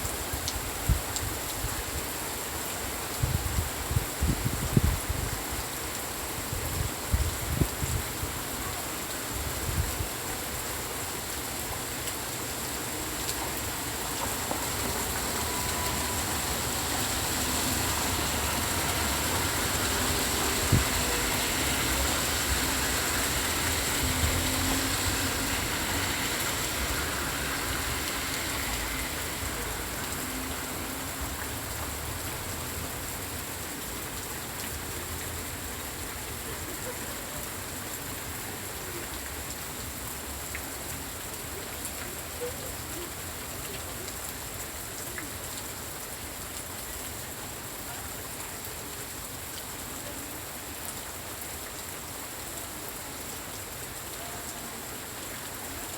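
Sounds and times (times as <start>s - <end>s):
steady rain hissing: 0.0s - 55.9s.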